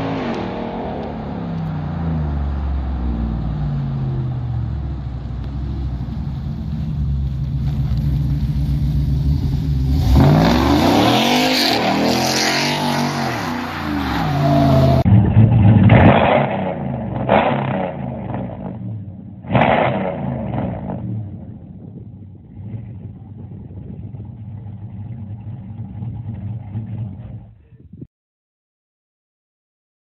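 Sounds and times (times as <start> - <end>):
vee eight engine revving: 0.0 - 27.5.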